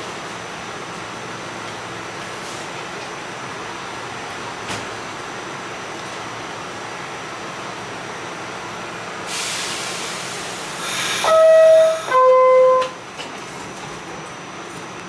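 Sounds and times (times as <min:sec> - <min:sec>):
train hum and hiss: 0:00.0 - 0:15.0.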